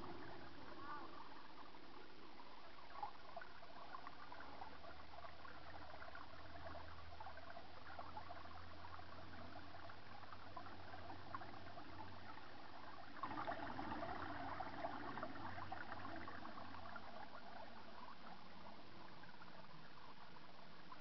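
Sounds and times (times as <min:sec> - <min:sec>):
water trickling over stones: 0:00.0 - 0:21.0.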